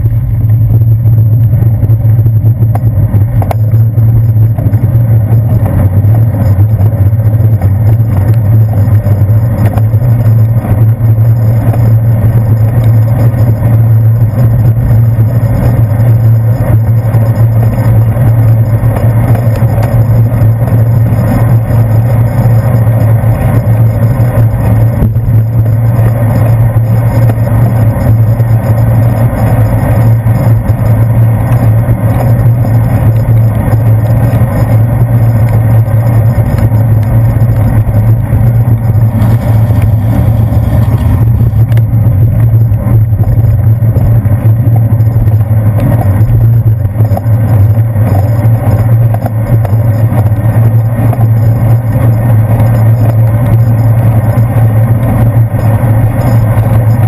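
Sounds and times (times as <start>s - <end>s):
tyre noise on wet road: 0.0s - 57.0s
wind on camera: 0.0s - 57.0s.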